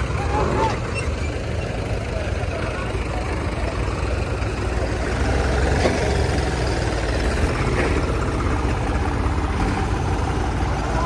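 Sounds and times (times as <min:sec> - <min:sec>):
heavy engine running: 0:00.0 - 0:11.0.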